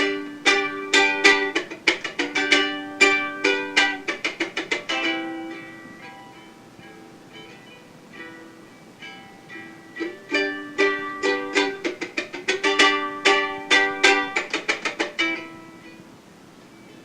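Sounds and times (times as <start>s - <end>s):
acoustic string instrument strummed: 0.0s - 17.0s.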